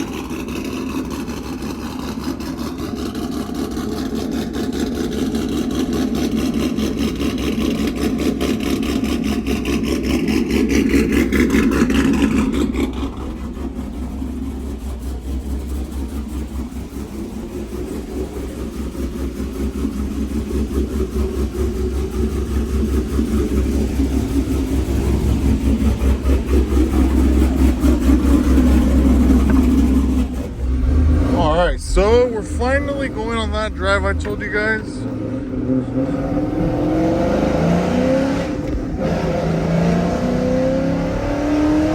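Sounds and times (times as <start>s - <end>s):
truck engine running: 0.0s - 39.4s.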